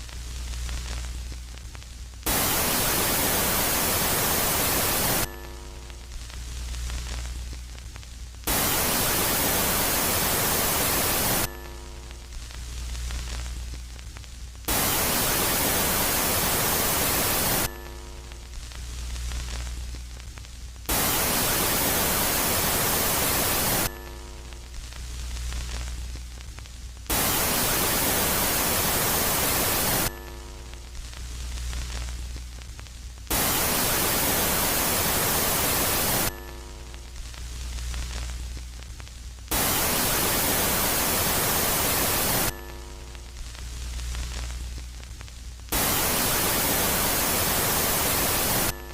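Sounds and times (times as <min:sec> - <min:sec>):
faint hiss: 0:00.0 - 0:48.9
loud white-noise static: 0:00.0 - 0:48.9.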